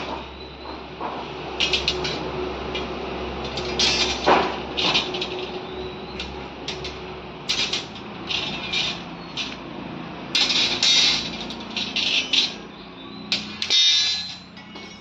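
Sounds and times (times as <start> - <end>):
steel bars clinking and scraping: 0.0 - 15.0.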